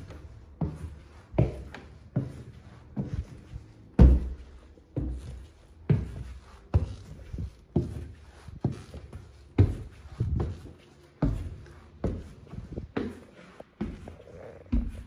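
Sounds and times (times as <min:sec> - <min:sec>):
footsteps on wooden stairs: 0:00.0 - 0:15.0.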